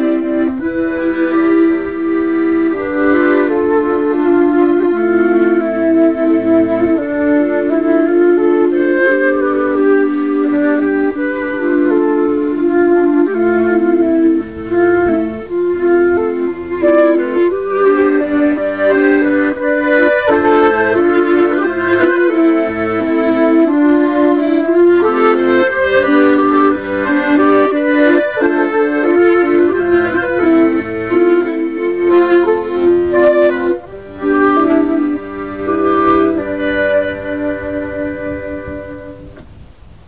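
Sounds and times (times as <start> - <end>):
flute clarinet and accordion waltz: 0.0 - 40.0.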